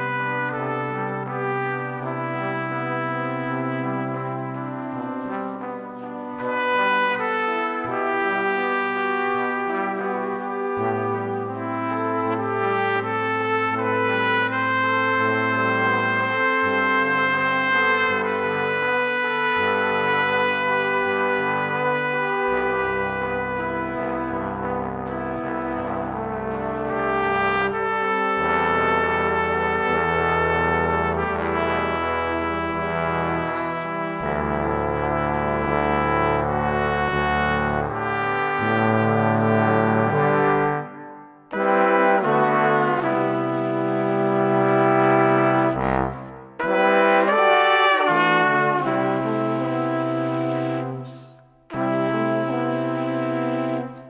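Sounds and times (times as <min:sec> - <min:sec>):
slow brass-like held chords: 0:00.0 - 0:54.0.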